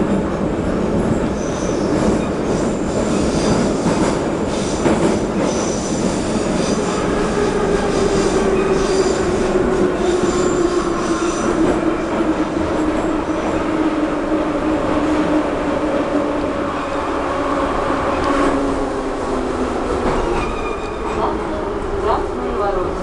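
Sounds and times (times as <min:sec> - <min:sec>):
metro train rumbling: 0:00.0 - 0:23.0.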